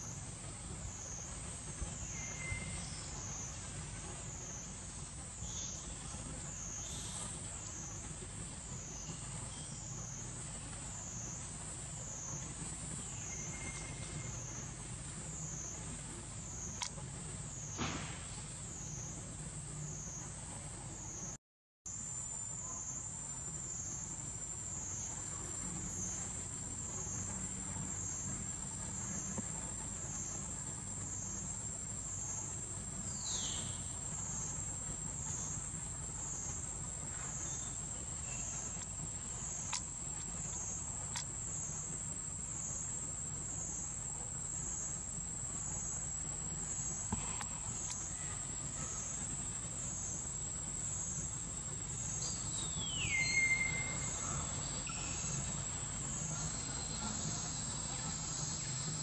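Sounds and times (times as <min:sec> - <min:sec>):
low steady rumble: 0:00.0 - 0:21.3, 0:22.0 - 0:59.0
pulsing insect chorus: 0:00.0 - 0:21.3, 0:22.2 - 0:59.0.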